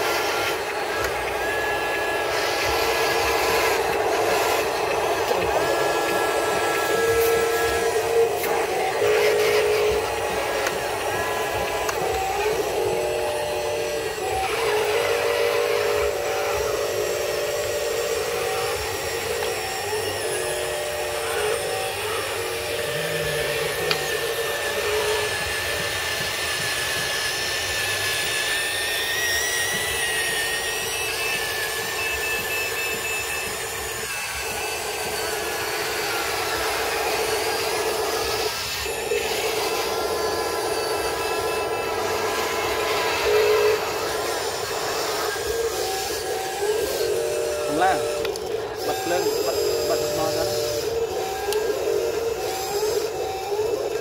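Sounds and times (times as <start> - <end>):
electric motors whining: 0.0 - 54.0
high wavering whine: 0.0 - 54.0.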